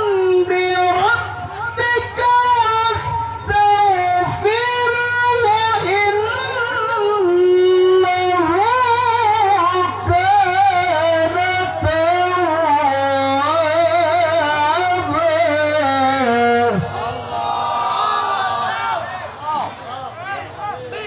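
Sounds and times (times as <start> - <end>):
man reciting through loudspeakers: 0.0 - 17.2.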